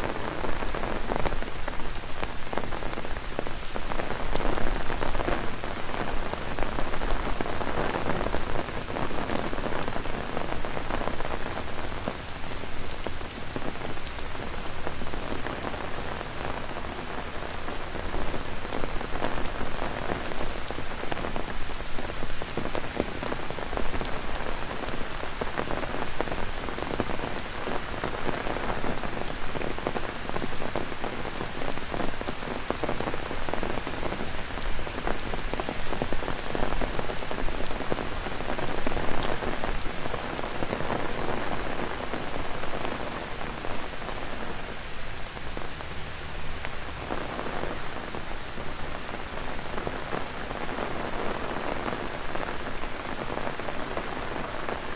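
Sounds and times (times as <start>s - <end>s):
cicadas droning: 0.0s - 54.9s
heavy rain drumming on umbrella: 0.0s - 54.9s.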